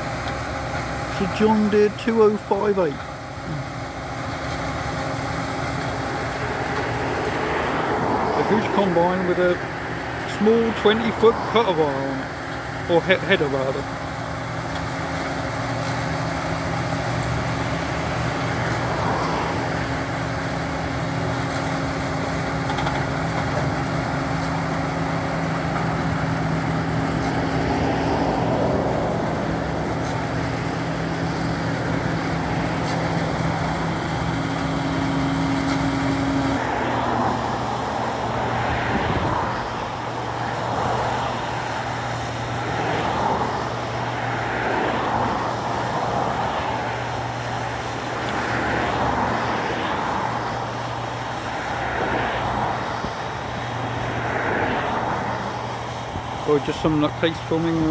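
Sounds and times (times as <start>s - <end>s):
combine harvester engine drone: 0.0s - 57.9s
distant surging engine rumble: 0.0s - 57.9s.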